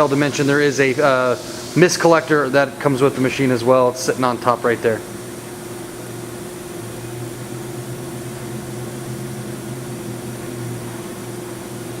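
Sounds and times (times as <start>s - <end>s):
machinery fans humming: 0.0s - 12.0s.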